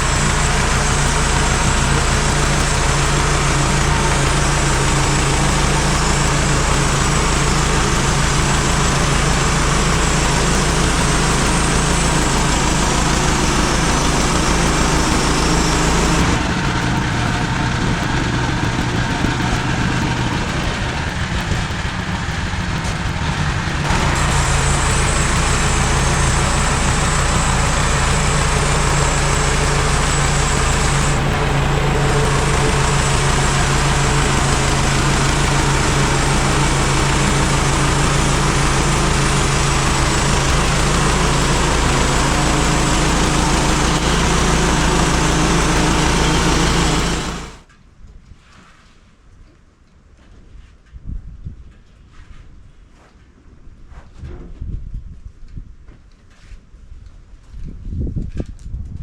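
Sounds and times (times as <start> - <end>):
band sawmill running: 0.0 - 47.7.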